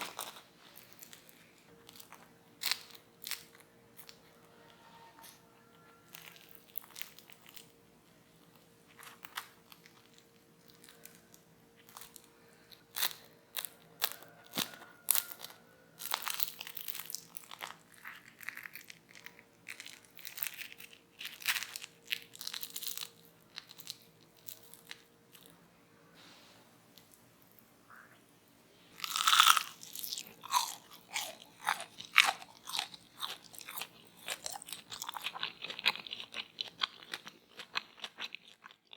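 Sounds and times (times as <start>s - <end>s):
fried potato cakes crunching: 0.0s - 4.4s, 5.2s - 7.8s, 8.4s - 25.6s, 28.9s - 38.9s.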